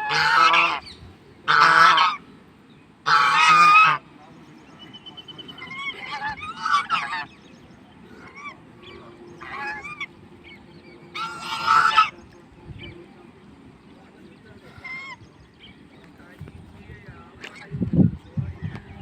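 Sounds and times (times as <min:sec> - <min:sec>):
swans honking: 0:00.0 - 0:13.8, 0:14.4 - 0:15.9.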